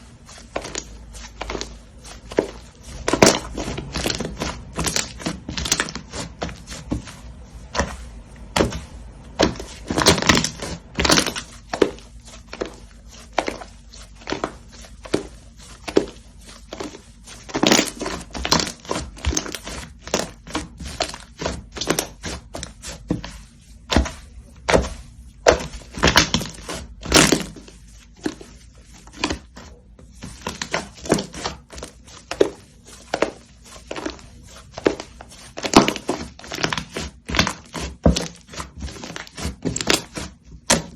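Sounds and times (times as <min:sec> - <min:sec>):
slime crackling: 0:00.0 - 0:40.9.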